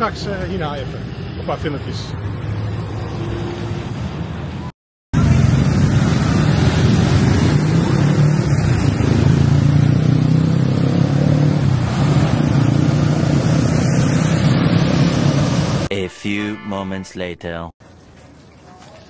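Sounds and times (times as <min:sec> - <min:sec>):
motorcycle and car engines: 0:00.0 - 0:15.9
city traffic: 0:00.0 - 0:19.0.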